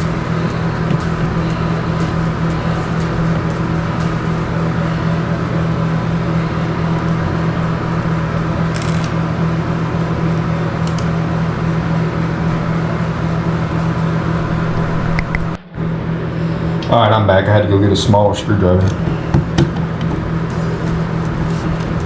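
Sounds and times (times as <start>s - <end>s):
exhaust fan hum: 0.0s - 22.0s.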